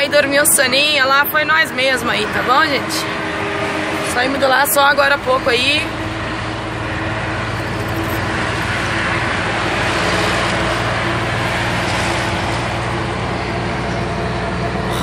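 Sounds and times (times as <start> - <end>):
road noise: 0.0 - 15.0
truck engine hum: 0.0 - 15.0.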